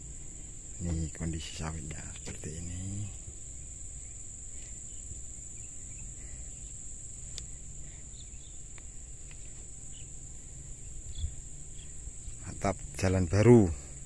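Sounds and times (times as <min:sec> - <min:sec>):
insects shrilling: 0:00.0 - 0:14.0.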